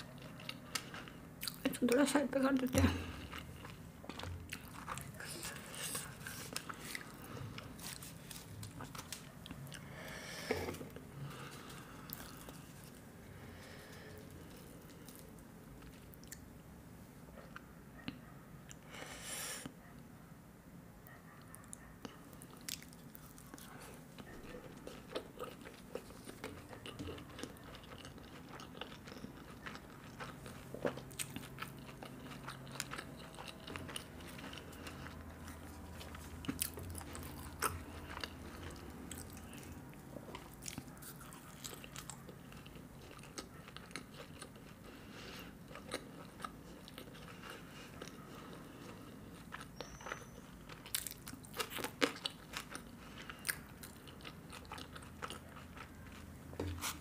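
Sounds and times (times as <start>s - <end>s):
person chewing food: 0.0s - 1.7s, 2.6s - 16.6s, 21.4s - 57.0s.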